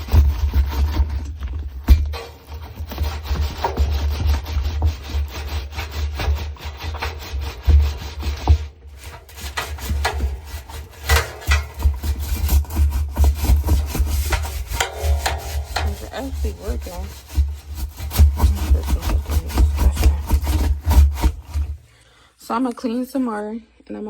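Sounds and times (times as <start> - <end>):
stiff brush scrubbing: 0.0 - 22.0.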